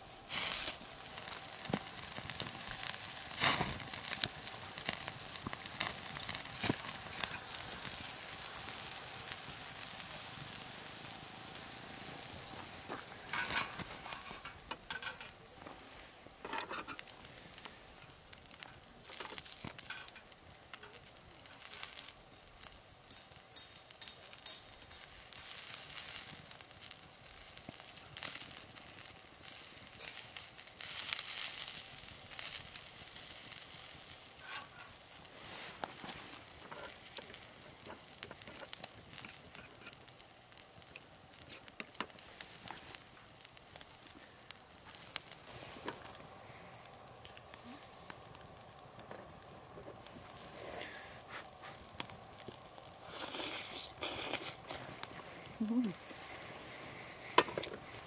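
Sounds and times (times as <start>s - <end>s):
fat crackling and popping: 0.0s - 58.0s
meat sizzling on a grill: 0.0s - 58.0s.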